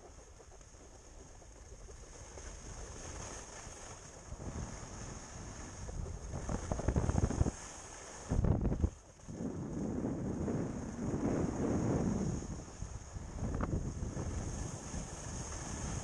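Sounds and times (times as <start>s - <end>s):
wind rushing over microphone: 2.0s - 16.0s.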